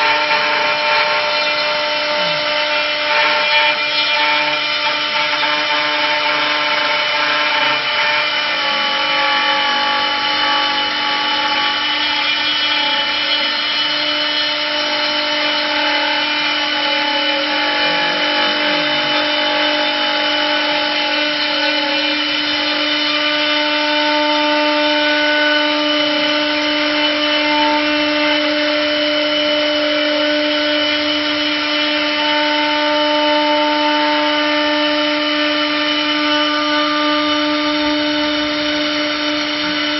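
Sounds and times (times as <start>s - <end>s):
wood lathe machine whine: 0.0s - 39.9s.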